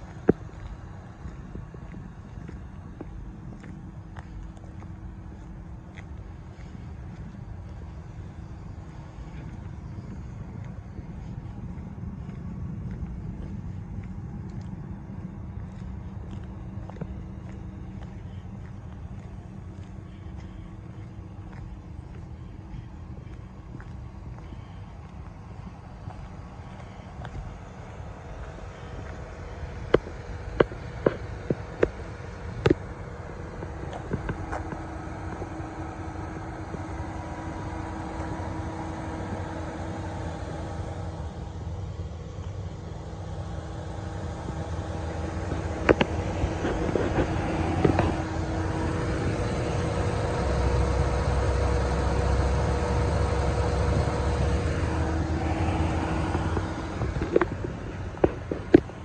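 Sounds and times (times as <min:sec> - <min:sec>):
footsteps on asphalt: 0:00.0 - 0:59.0
pickup engine idling: 0:00.0 - 0:59.0
steady low rumble: 0:00.0 - 0:59.0.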